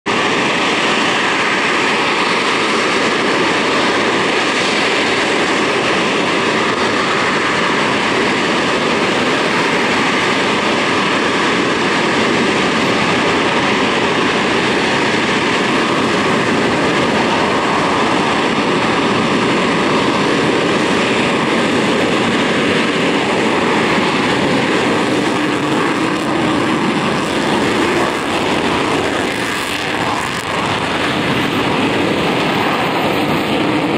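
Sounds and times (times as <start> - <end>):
jet engines at high power: 0.0 - 33.9
jet taking off with afterburners: 0.0 - 33.9.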